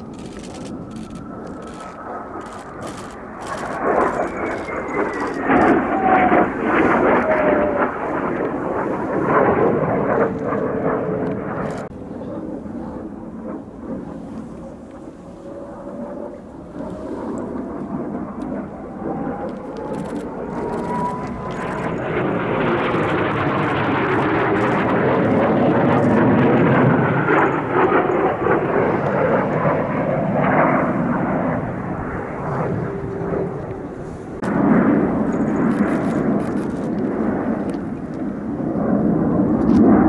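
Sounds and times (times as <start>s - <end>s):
jet aircraft flying past: 0.0s - 40.0s
rising jet whine: 0.0s - 40.0s.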